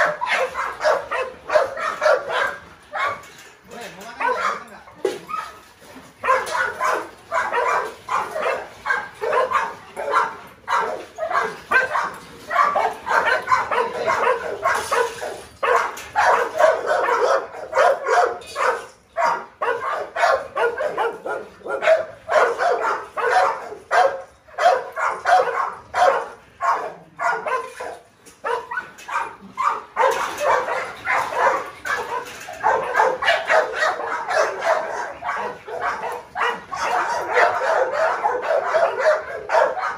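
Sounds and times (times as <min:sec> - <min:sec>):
dogs barking and yelping: 0:00.0 - 0:39.9.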